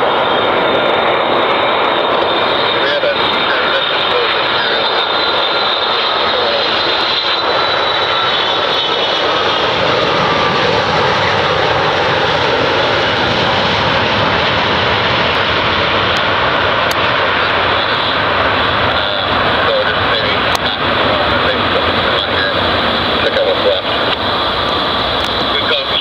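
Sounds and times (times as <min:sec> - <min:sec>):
jet engines rushing with whine: 0:00.0 - 0:26.0.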